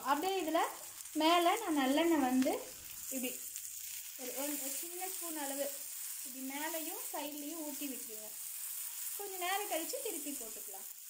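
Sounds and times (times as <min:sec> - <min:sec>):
batter sizzling on a griddle: 0:00.0 - 0:11.0.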